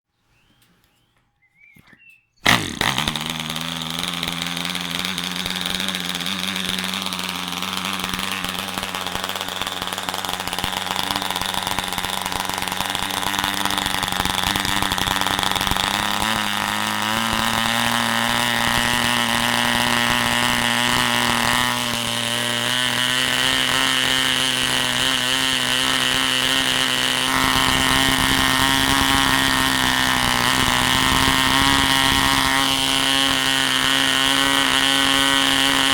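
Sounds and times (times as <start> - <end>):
model diesel engine running: 2.4 - 35.9.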